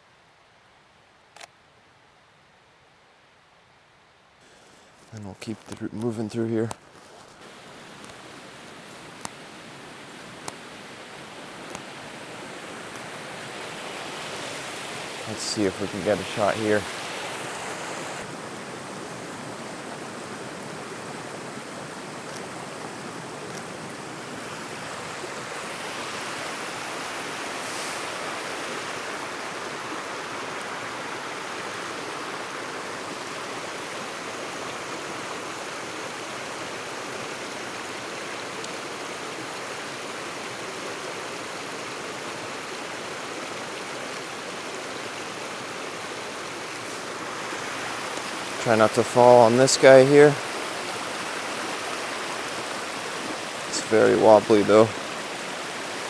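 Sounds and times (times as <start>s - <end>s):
small stream flowing: 4.4s - 56.0s.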